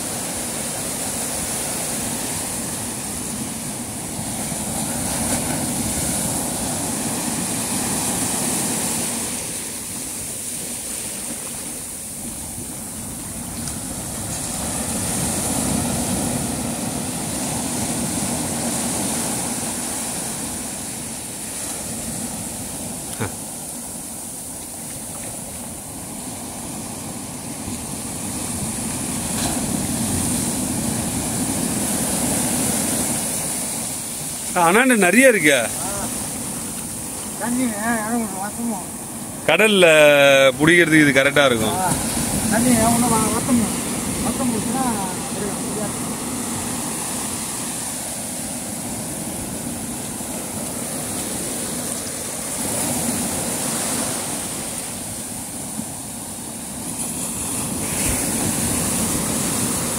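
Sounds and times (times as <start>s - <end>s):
sea waves washing on shore: 0.0s - 59.9s.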